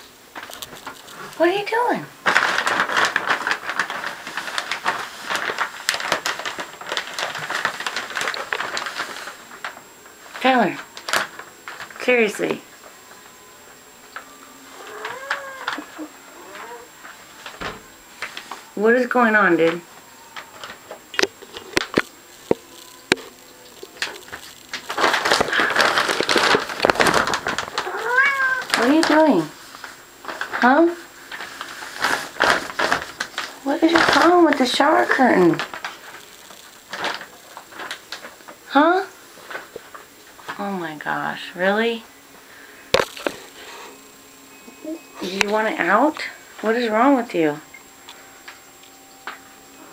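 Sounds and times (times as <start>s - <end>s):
plastic shower curtain crinkling: 0.0s - 44.0s, 44.8s - 49.9s.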